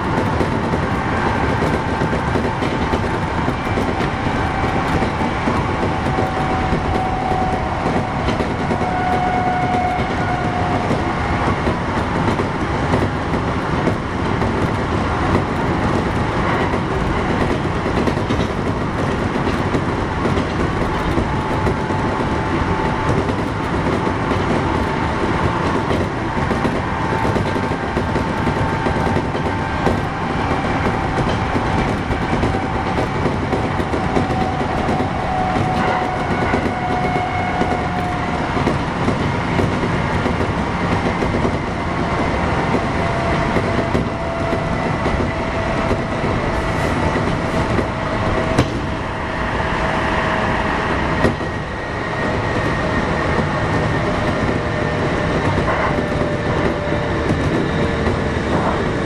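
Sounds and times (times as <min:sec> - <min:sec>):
wheels clickety-clack: 0:00.0 - 0:49.0, 0:51.1 - 0:59.0
train wheels rumbling on rails: 0:00.0 - 0:59.0.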